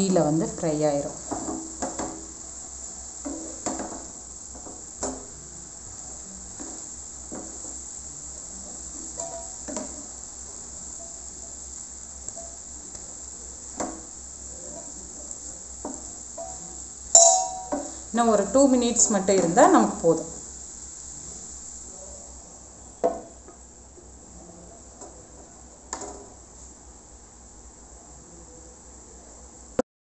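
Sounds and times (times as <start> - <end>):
food sizzling in pan: 0.0 - 28.0.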